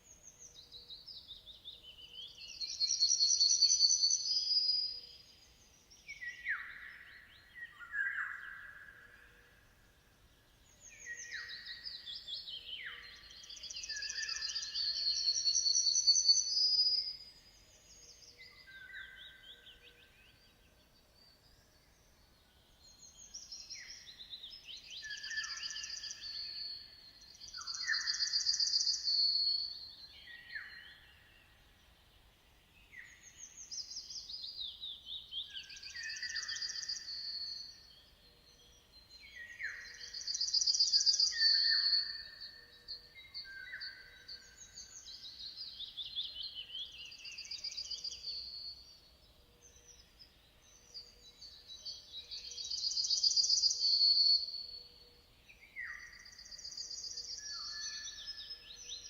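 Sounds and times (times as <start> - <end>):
songbird singing trills: 0.0 - 59.0.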